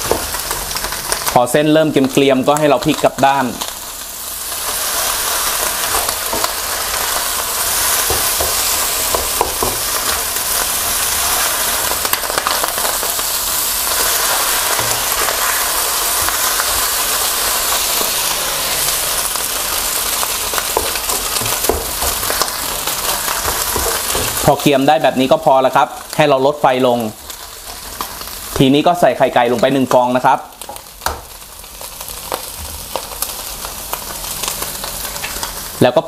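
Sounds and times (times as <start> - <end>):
noodles sizzling in a wok: 0.0 - 36.0.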